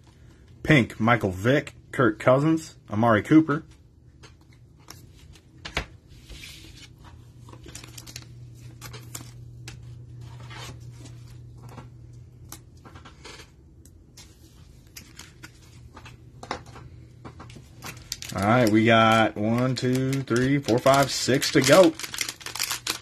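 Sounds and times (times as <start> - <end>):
card handling rustles: 4.2 - 23.0.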